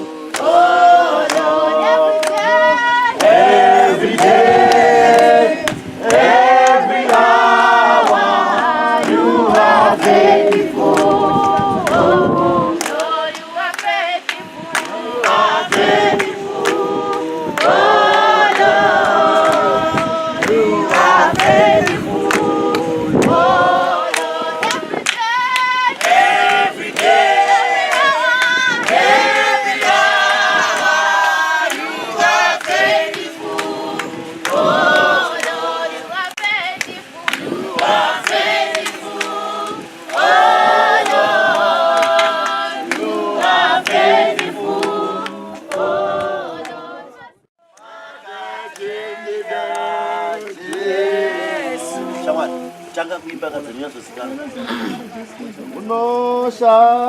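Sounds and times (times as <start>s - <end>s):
group singing without instruments: 0.0s - 57.0s.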